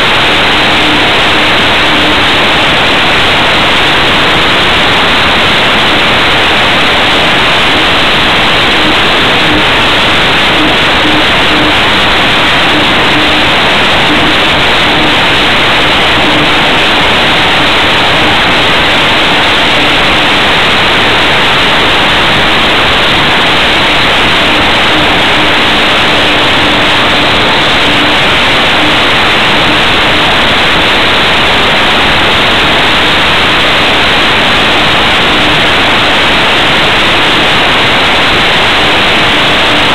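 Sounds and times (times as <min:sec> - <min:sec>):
faint steady hum: 0:00.0 - 0:39.9
wind rushing over microphone: 0:00.0 - 0:39.9.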